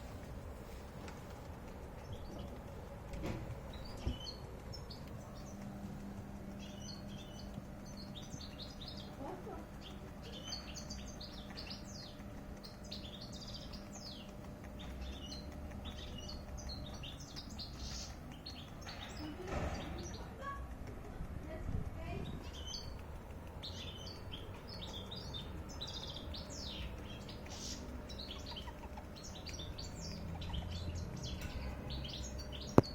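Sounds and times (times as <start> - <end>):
small bird chirping: 0.0 - 32.9.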